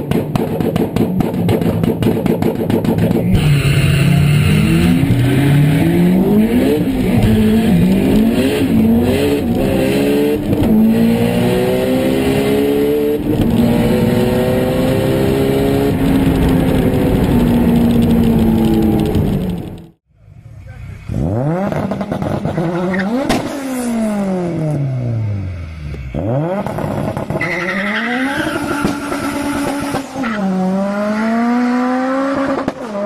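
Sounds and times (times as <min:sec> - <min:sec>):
car engine revving and accelerating: 0:00.4 - 0:19.9, 0:21.1 - 0:33.0.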